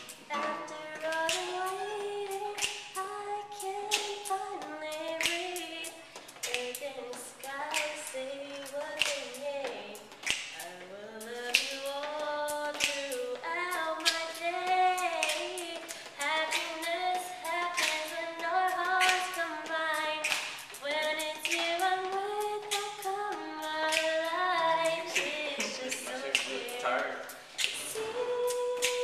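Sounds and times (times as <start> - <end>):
finger snaps: 0.0 - 29.0
young people singing a cappella: 0.0 - 29.0.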